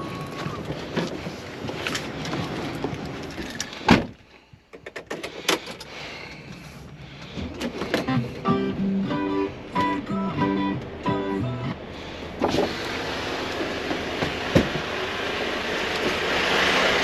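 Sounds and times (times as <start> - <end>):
steady background rumble: 0.0 - 16.4.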